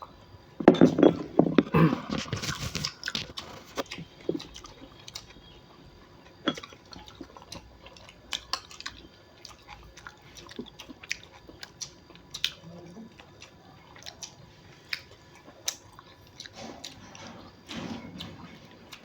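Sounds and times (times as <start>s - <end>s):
person chewing crunchy food: 0.6s - 19.0s.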